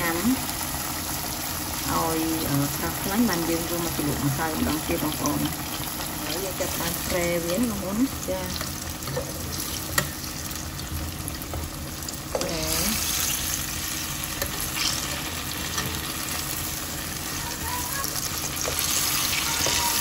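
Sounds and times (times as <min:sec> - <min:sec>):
deep-frying sizzle in oil: 0:00.0 - 0:20.0.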